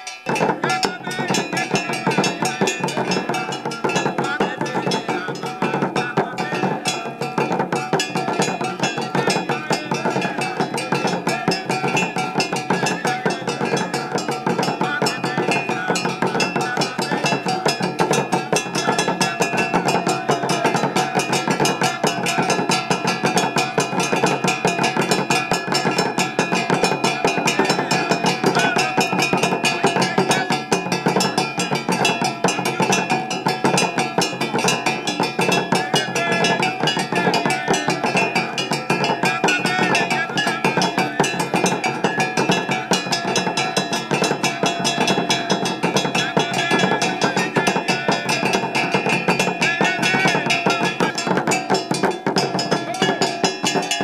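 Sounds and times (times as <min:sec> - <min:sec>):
fast drumming: 0:00.0 - 0:54.0.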